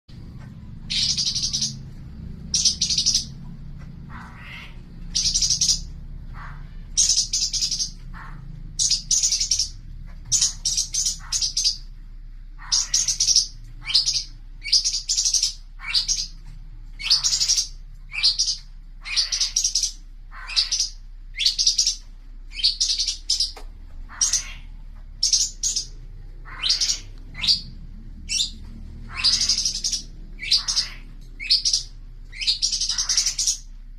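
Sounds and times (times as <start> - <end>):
faint low hum: 0.1 - 33.9
songbird chirping: 0.1 - 33.9.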